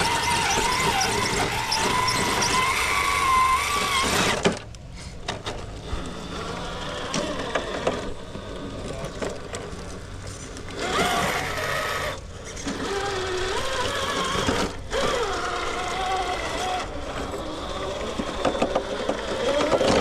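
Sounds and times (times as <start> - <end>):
electric motor and gears whining: 0.0 - 4.8, 5.4 - 20.0.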